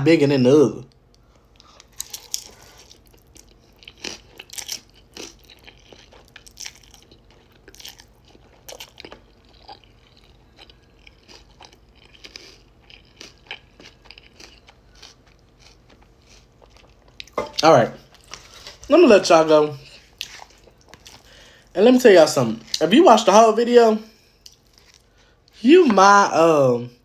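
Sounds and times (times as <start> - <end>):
person chewing crunchy food: 1.1 - 18.9, 19.7 - 21.8, 22.6 - 22.8, 24.2 - 26.0.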